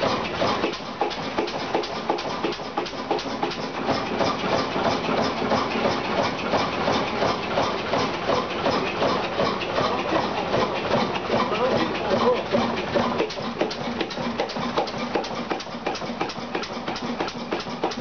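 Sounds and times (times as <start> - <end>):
stationary engine knocking: 0.0 - 18.0.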